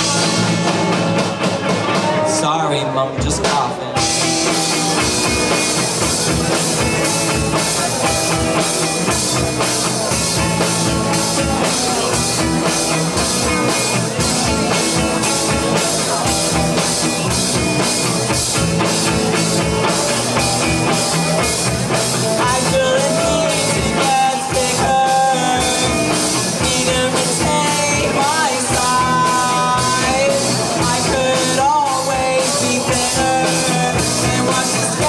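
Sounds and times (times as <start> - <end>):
bass guitar: 0.0 - 35.0
drum kit beat: 0.0 - 35.0
electric guitar: 0.0 - 35.0.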